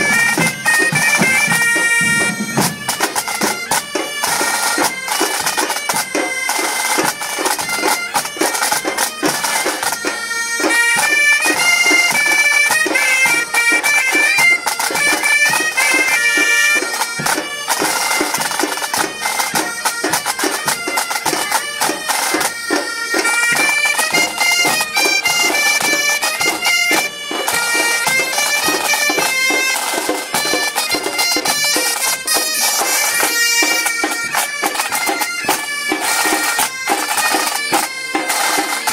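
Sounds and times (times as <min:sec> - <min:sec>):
bagpipes melody over drone: 0:00.0 - 0:38.9
drumming: 0:00.0 - 0:38.9.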